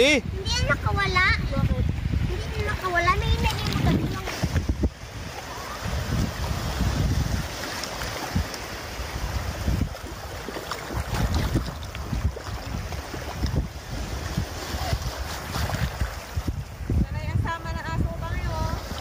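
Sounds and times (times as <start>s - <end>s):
wind buffeting microphone: 0.0s - 19.0s
seawater sloshing and splashing: 1.5s - 16.9s, 18.3s - 19.0s.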